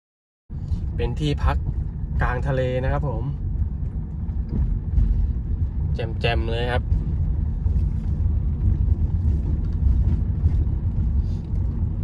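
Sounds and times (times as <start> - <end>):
car rumbling on the move: 0.5 - 12.0.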